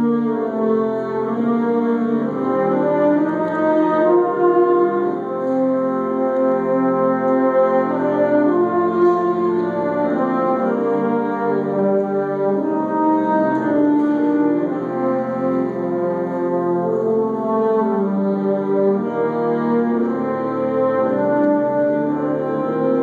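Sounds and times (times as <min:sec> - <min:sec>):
wind ensemble playing chords: 0:00.0 - 0:23.0.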